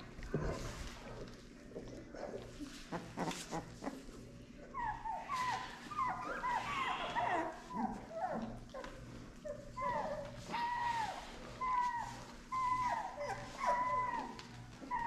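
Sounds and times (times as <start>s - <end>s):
puppy whimpering: 2.2s - 15.0s.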